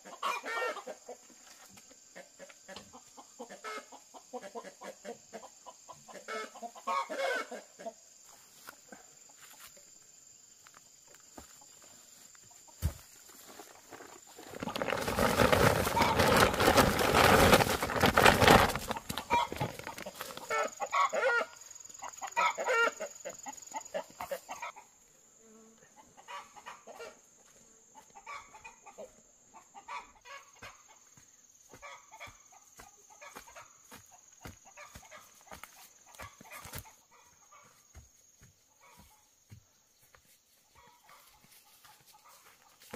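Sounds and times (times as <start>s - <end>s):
chickens clucking and squawking: 0.0s - 9.7s, 11.5s - 25.0s, 25.9s - 38.0s, 40.6s - 42.9s.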